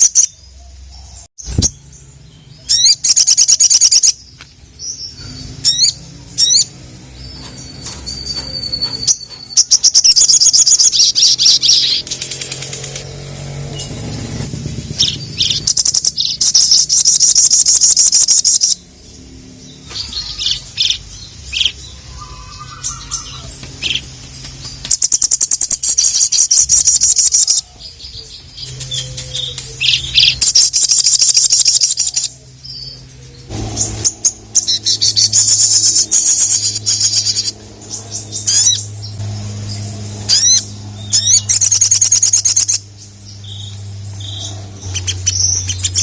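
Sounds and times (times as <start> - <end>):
bird high-pitched trills: 0.0 - 46.0
bird sharp chips: 2.6 - 19.0, 19.6 - 46.0.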